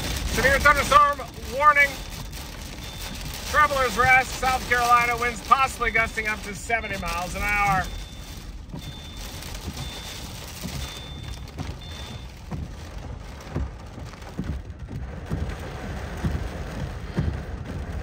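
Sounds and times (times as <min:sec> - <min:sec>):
heavy rain pelting a vehicle: 0:00.0 - 0:18.0
wind gusts thumping: 0:00.0 - 0:18.0.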